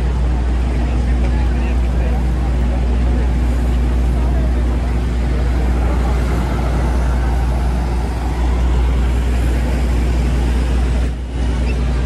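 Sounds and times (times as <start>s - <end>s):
heavy vehicle engine humming: 0.0s - 12.0s
street traffic: 0.0s - 12.0s.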